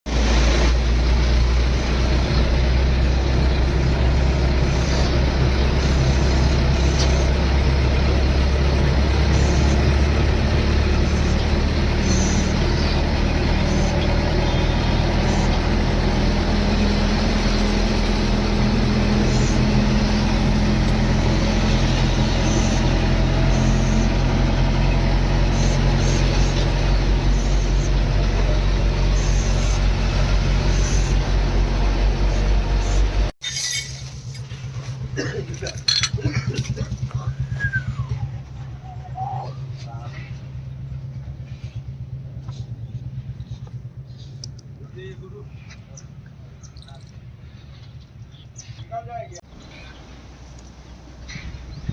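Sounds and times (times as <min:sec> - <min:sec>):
diesel engine running: 0:00.1 - 0:51.9.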